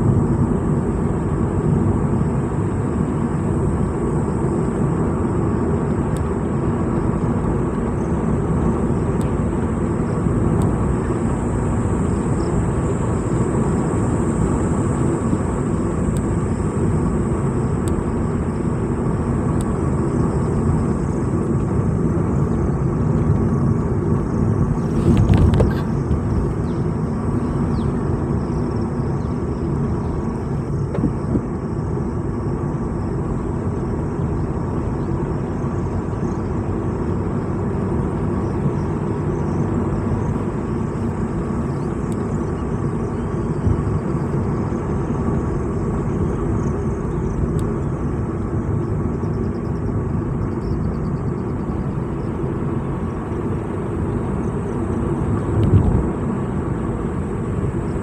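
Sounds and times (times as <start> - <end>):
vehicle driving on road: 0.0 - 58.0.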